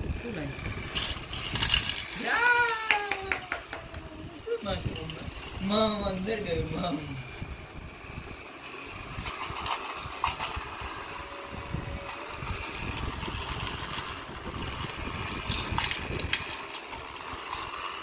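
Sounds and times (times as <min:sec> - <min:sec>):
toy train motor whirring: 0:00.0 - 0:18.0
wheels rattling over track: 0:00.0 - 0:18.0.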